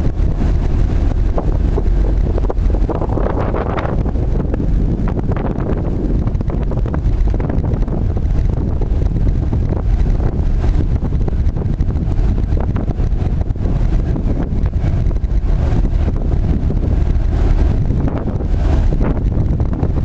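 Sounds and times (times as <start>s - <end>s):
steady low rumble: 0.0s - 20.0s
wind buffeting microphone: 0.0s - 20.0s.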